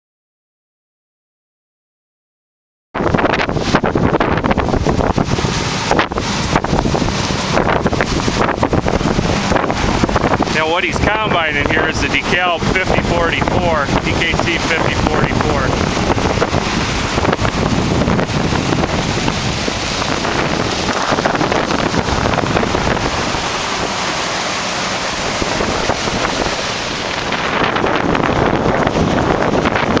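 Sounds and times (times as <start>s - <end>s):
wind buffeting microphone: 3.0s - 30.0s.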